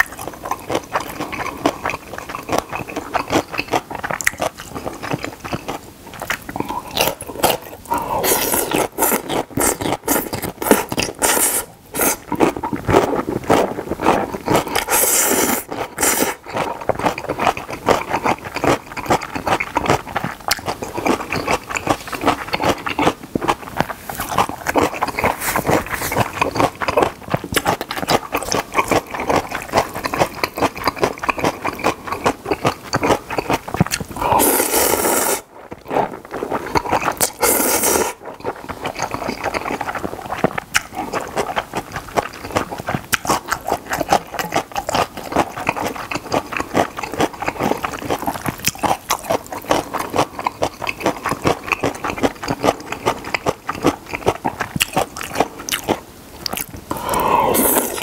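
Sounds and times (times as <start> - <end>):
wet chewing and mouth smacks: 0.0 - 58.0.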